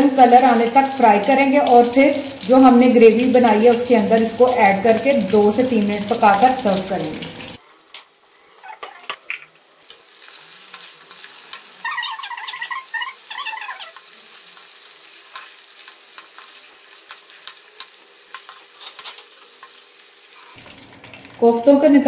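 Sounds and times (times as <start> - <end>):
oil crackling sizzle: 0.0 - 22.0.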